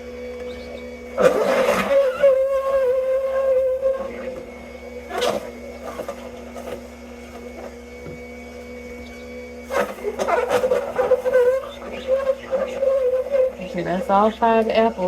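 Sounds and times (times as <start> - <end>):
juicer motor humming: 0.0 - 15.0.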